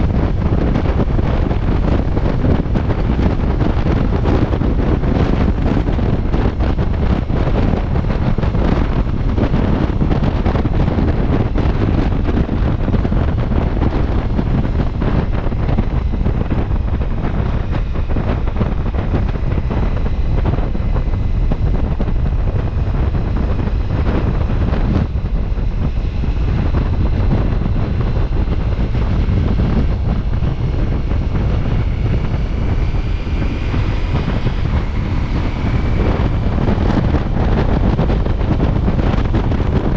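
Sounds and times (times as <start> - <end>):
faint whine: 0.0 - 39.9
motorcycle engine running: 0.0 - 39.9
wind rush on microphone: 0.0 - 39.9.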